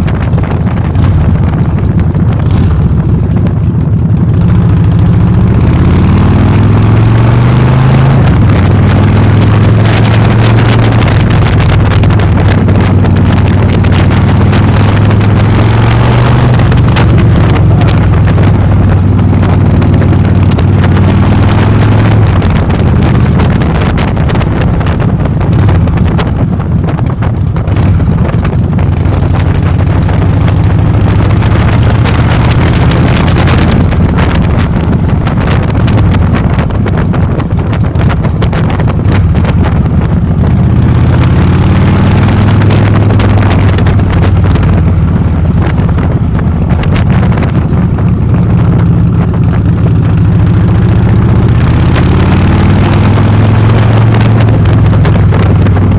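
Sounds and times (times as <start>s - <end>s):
motor scooter engine running: 0.0s - 55.9s
wind buffeting microphone: 0.0s - 55.9s.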